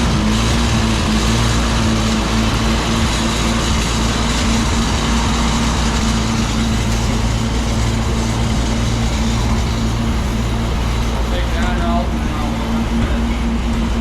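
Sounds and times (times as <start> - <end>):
farm machinery engine running: 0.0 - 14.0.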